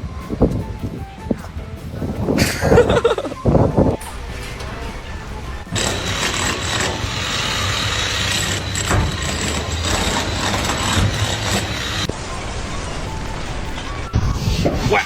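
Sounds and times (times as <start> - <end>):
dense mechanical noise: 0.0 - 15.0
engine running: 0.0 - 15.0.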